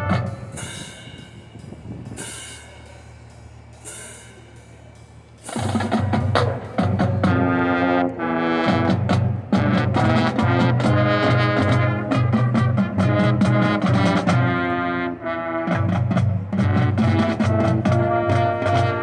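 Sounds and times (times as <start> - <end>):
drum line strikes: 0.0 - 14.8, 15.6 - 19.0
brass section chords: 0.0 - 19.0.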